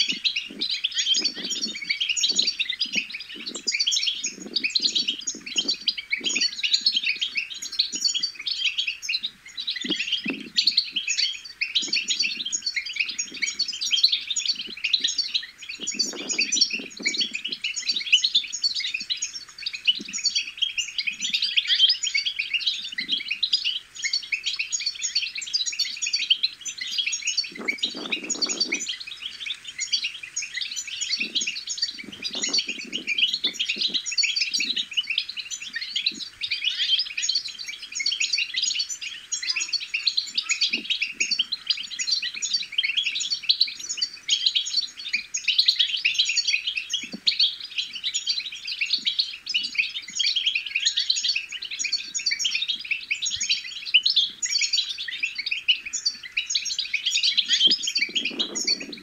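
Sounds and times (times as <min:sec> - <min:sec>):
goldfinches twittering: 0:00.0 - 0:59.0.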